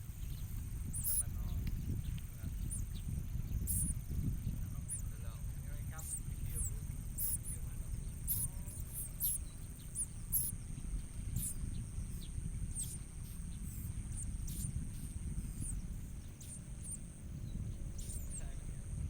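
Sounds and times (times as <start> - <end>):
low background rumble: 0.0 - 19.0
bird high-pitched chirps: 0.1 - 4.1, 4.7 - 18.8.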